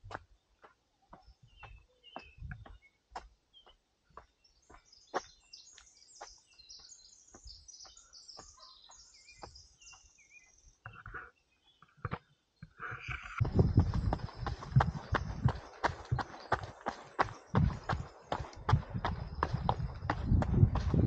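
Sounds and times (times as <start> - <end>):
running footsteps on dirt: 0.0 - 11.3, 12.9 - 21.0
songbirds chirping: 0.0 - 21.0.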